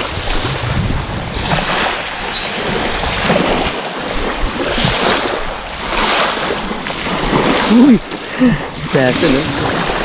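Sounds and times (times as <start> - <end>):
seawater lapping: 0.0 - 10.0.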